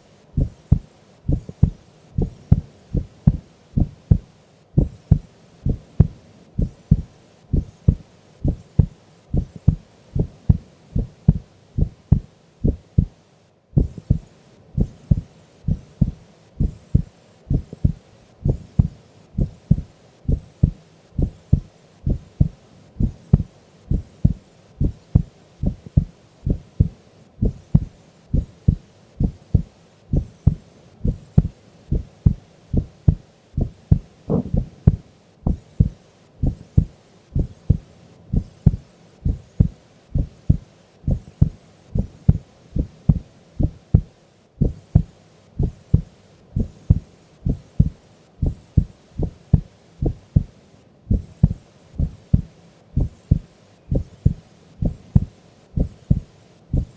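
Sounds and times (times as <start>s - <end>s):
heart beating: 0.4s - 13.2s, 13.8s - 50.5s, 51.1s - 56.9s.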